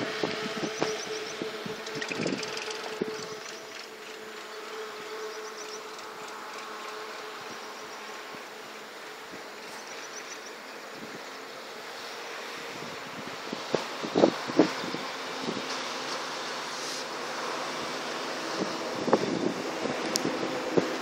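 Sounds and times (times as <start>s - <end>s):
insects buzzing: 0.2s - 20.9s.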